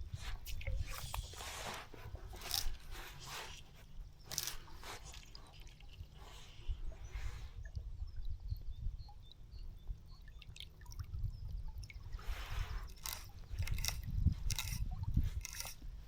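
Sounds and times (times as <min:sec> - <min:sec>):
river water trickling and splashing: 0:00.0 - 0:08.5, 0:09.4 - 0:16.0
wind rumbling on microphone: 0:00.0 - 0:10.1, 0:10.9 - 0:16.0.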